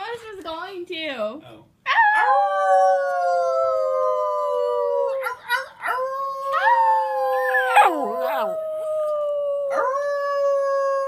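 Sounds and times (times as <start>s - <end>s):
dog howling: 1.9s - 11.0s.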